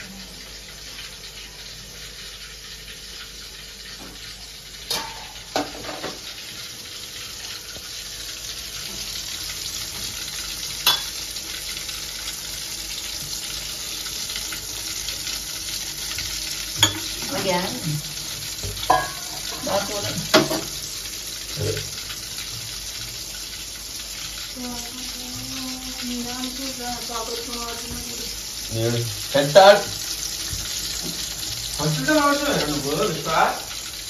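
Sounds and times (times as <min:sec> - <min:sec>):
fish sizzling in hot oil: 0:00.0 - 0:34.0.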